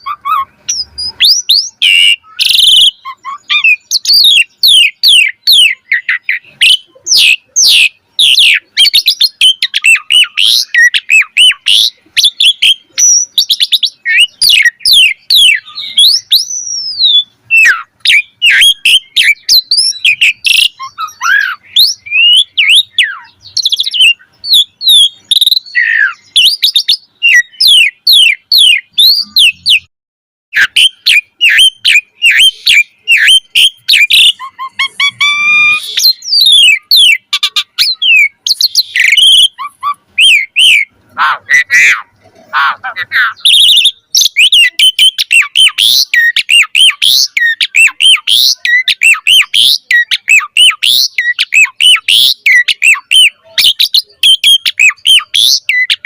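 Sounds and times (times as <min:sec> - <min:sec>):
starling singing: 0:00.0 - 0:29.9, 0:30.6 - 0:56.0.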